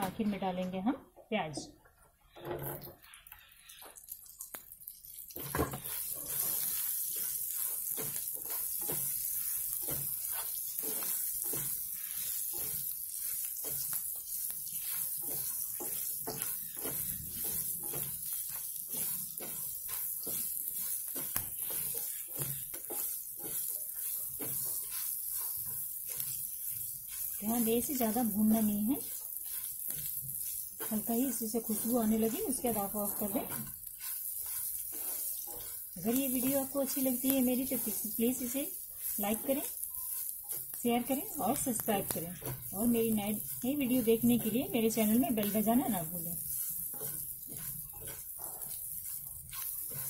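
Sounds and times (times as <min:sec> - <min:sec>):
wooden spatula scraping: 0:02.0 - 0:04.0, 0:05.2 - 0:50.0
onions sizzling in hot oil: 0:02.2 - 0:50.0.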